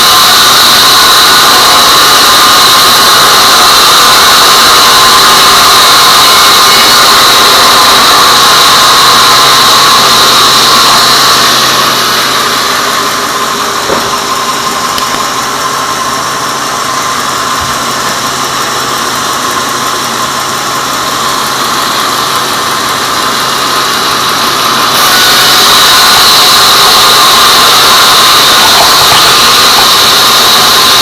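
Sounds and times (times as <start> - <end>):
band sawmill running: 0.0 - 31.0
high saw whine: 0.0 - 31.0.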